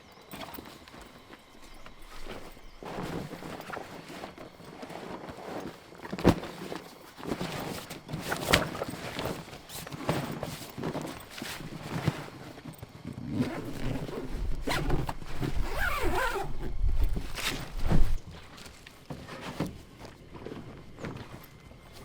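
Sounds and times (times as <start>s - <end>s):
knocks and clatter of handling: 0.1s - 22.0s.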